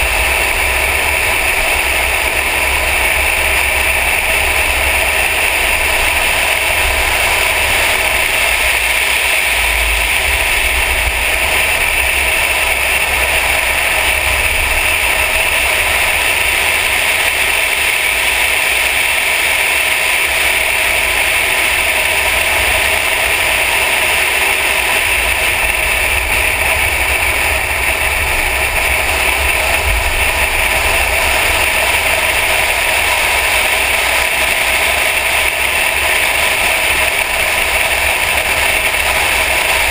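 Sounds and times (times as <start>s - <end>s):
car driving drone: 0.0s - 39.9s.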